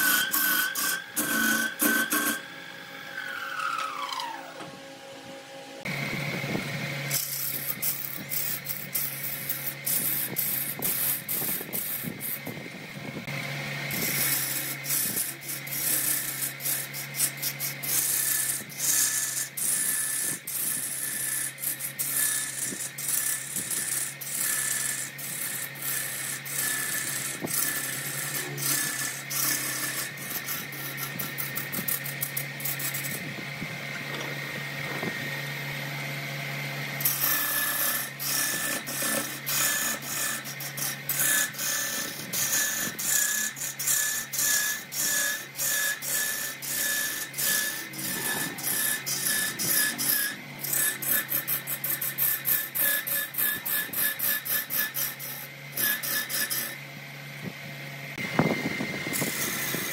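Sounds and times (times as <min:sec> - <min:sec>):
gouge scraping spinning wood: 0:00.0 - 0:59.9
wood lathe motor hum: 0:00.0 - 0:59.9.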